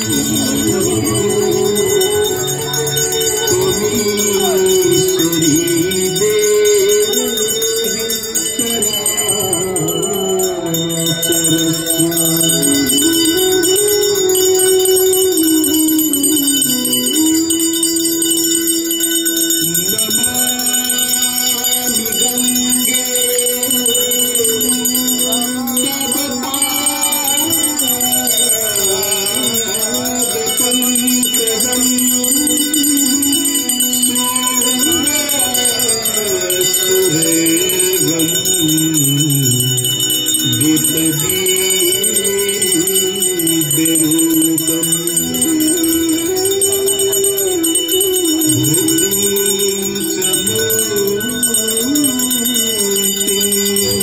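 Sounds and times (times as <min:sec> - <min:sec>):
brass hand bells ringing: 0:00.0 - 0:54.0
devotional music: 0:00.0 - 0:54.0.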